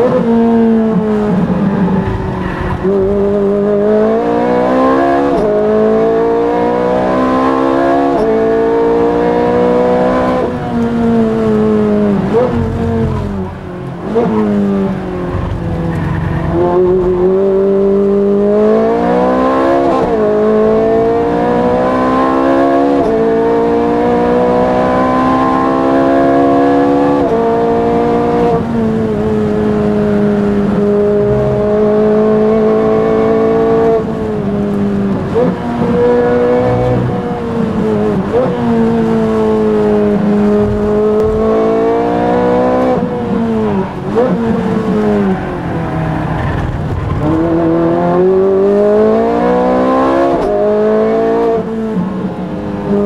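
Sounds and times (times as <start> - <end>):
racing engine accelerating: 0.0 - 53.0.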